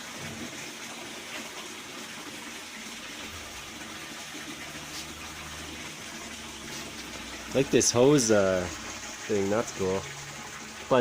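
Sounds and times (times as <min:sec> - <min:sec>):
water rushing into washing machine: 0:00.0 - 0:11.0.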